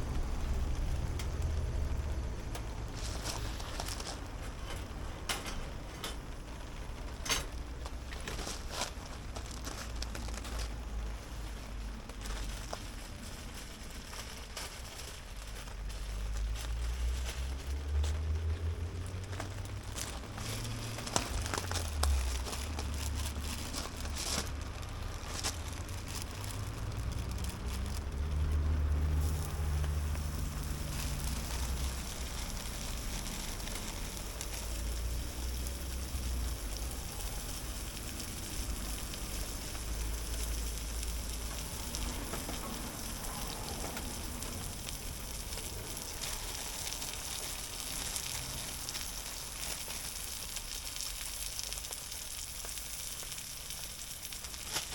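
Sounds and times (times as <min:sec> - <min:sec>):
low rumble: 0:00.0 - 0:52.4
steady rain falling: 0:00.0 - 0:54.9.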